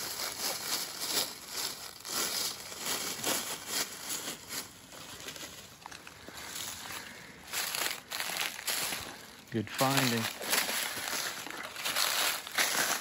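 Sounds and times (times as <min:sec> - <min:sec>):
dry leaves rustling: 0:00.0 - 0:13.0
plastic bag crinkling: 0:00.0 - 0:13.0.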